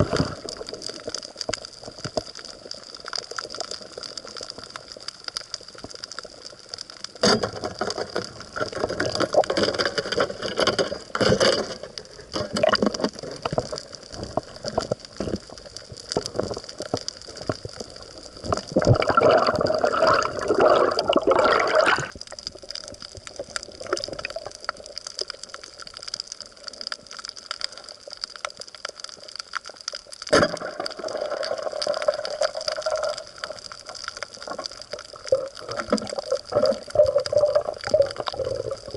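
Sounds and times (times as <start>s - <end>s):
water gushing and bubbling: 0.0s - 38.9s.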